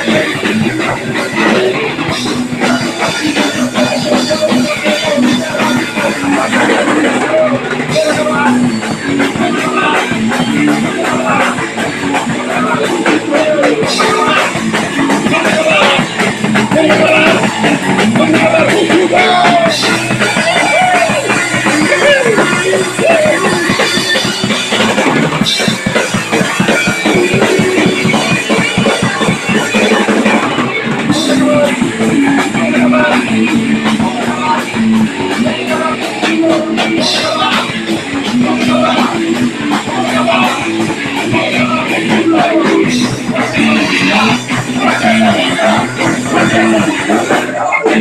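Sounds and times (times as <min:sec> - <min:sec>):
bass guitar: 0:00.0 - 0:48.0
distorted electric guitars: 0:00.0 - 0:48.0
pounding drum kit: 0:00.0 - 0:48.0.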